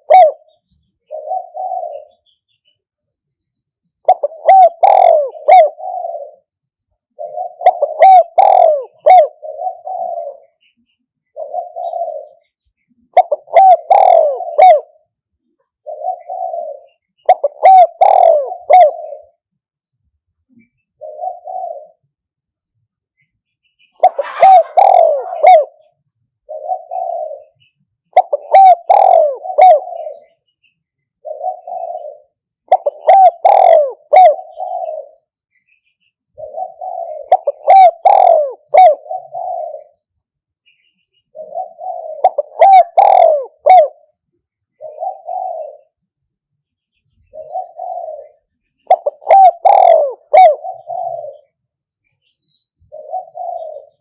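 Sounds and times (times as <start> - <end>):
dove cooing: 0.0 - 2.4, 4.0 - 6.5, 7.1 - 19.4, 20.5 - 22.2, 24.0 - 30.4, 31.2 - 35.3, 36.3 - 40.1, 41.3 - 46.1, 47.2 - 51.6, 52.8 - 54.0.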